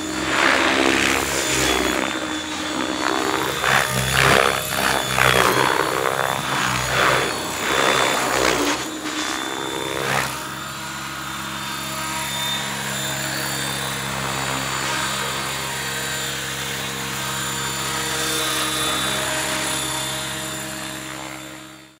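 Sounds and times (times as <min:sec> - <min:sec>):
helicopter rotor blades whooshing: 0:00.0 - 0:21.8
electric motor and rotor whine: 0:00.0 - 0:22.0.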